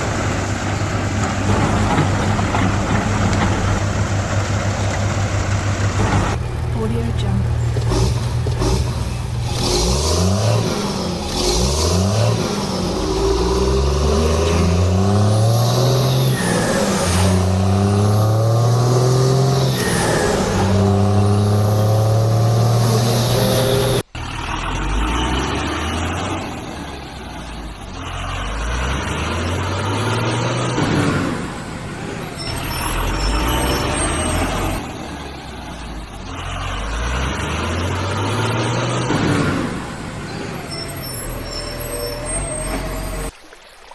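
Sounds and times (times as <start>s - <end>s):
heavy vehicle engines revving: 0.0s - 43.3s.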